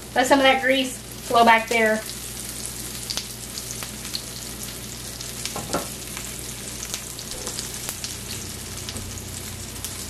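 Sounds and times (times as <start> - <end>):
patties sizzling in a pan: 0.0 - 10.0.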